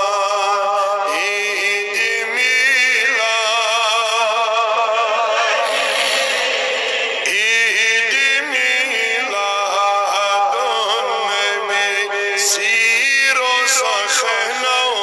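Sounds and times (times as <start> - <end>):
man chanting solo: 0.0 - 15.0.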